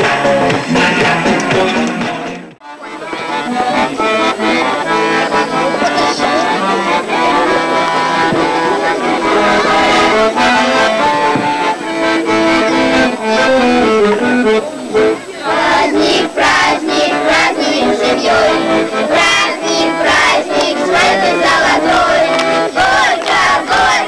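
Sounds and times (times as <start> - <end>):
accordion music: 0.0 - 24.0.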